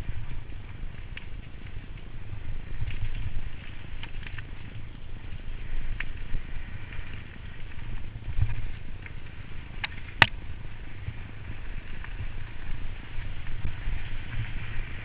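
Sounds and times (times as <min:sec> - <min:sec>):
wind rumble on camera: 0:00.0 - 0:15.0.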